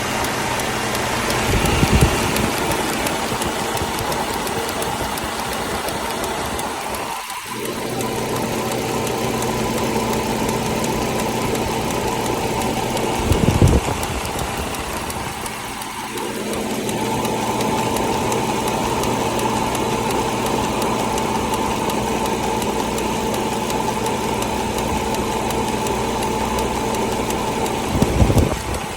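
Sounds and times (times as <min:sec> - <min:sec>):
car engine idling: 0:00.0 - 0:28.9
engine ticking: 0:00.0 - 0:28.9.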